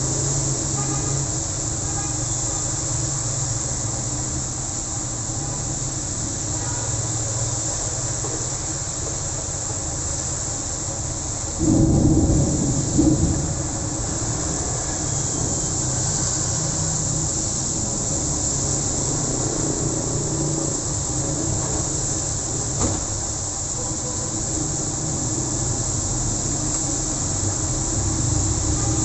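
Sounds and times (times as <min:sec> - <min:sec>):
heavy rain hissing: 0:00.0 - 0:29.0
road traffic rumble: 0:00.0 - 0:29.0.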